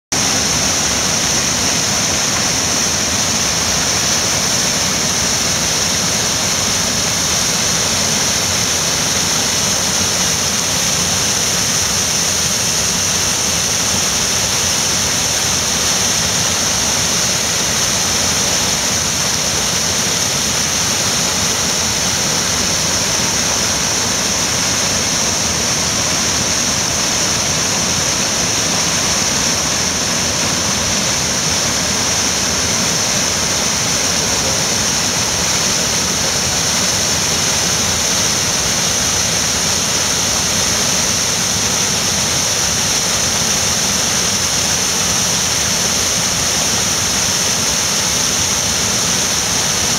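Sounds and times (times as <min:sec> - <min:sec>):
running water rushing: 0:00.0 - 0:49.9.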